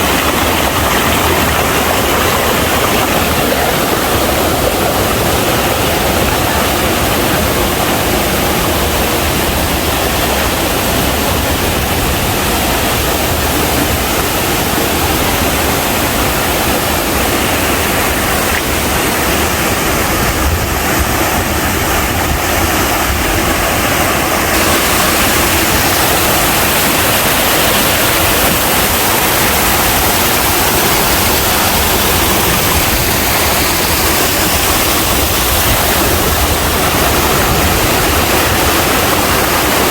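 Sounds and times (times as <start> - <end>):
stream and waterfall roaring: 0.0 - 39.9.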